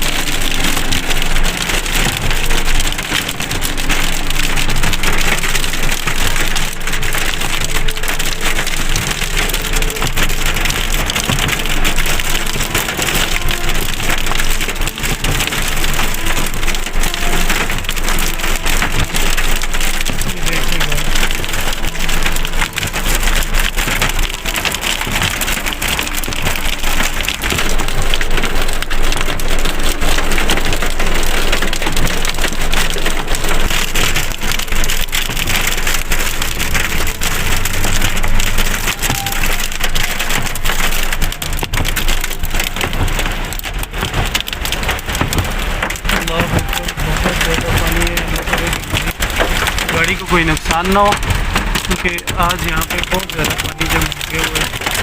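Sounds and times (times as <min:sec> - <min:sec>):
rain and hail on car roof: 0:00.0 - 0:55.0.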